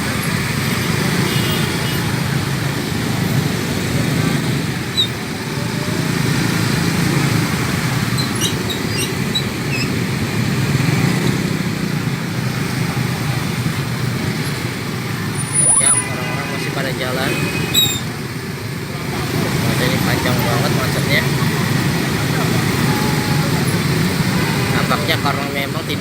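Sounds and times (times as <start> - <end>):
motorcycle and car engines idling: 0.0 - 26.0.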